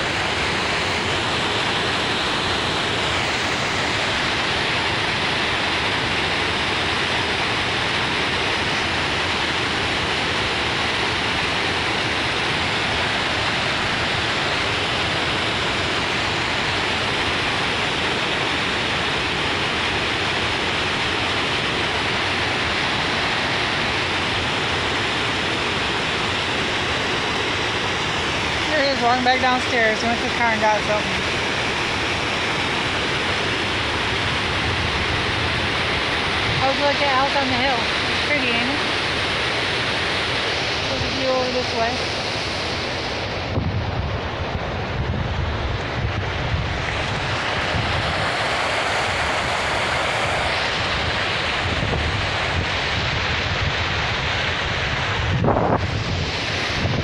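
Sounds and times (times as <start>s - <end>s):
water rushing over dam spillway: 0.0s - 57.0s.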